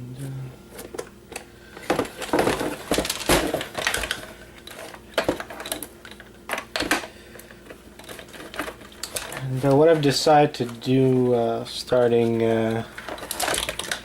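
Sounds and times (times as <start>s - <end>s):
plastic and metal parts clattering: 0.7s - 14.0s.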